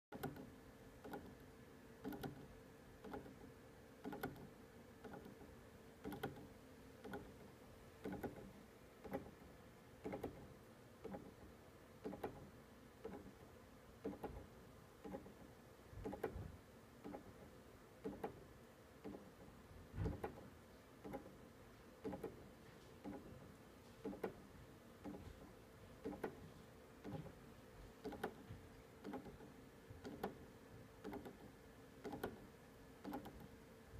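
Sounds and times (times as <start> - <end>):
clock motor ticking: 0.1 - 33.6
faint steady hum: 0.1 - 33.9.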